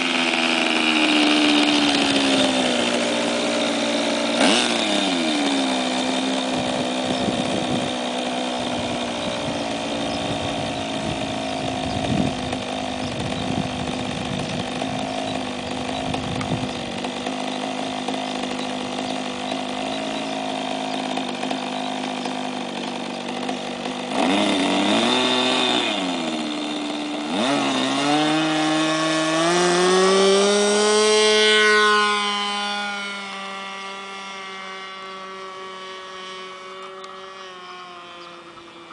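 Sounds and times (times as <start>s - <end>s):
model plane engine running: 0.0s - 38.9s.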